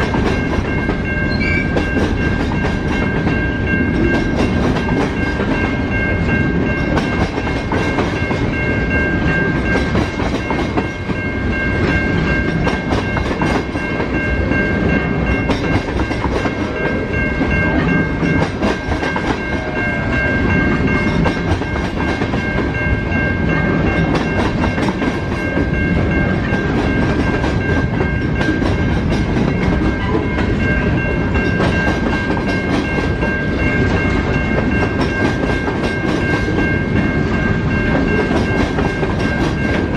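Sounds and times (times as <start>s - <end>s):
train wheels clickety-clack: 0.0s - 39.9s
high ringing tones: 0.3s - 39.9s.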